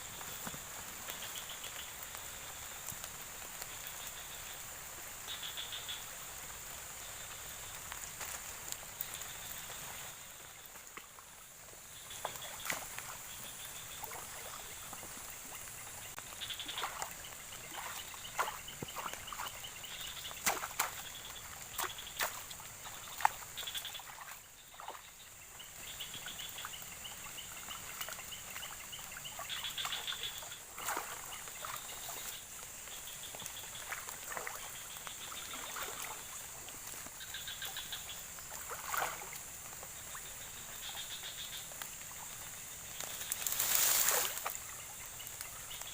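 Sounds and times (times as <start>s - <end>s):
frogs rapid pulsed calls: 0.0s - 45.9s
high insect whine: 0.0s - 45.9s.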